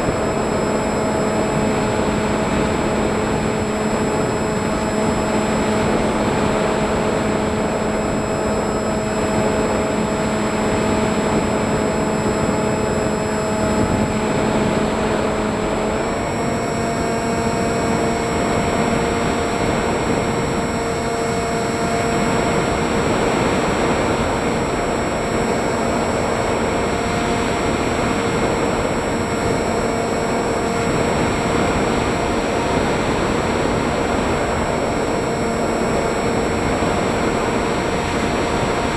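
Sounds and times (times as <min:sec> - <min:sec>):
model aircraft motor whining: 0:00.0 - 0:38.9.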